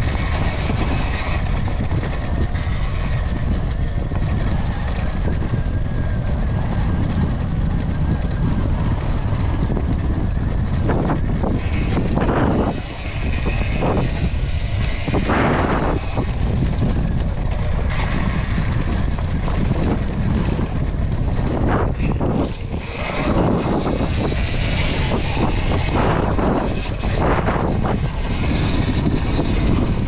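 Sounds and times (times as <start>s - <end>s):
dirt bike tyre and chassis noise: 0.0s - 30.0s
wind buffeting microphone: 0.0s - 30.0s.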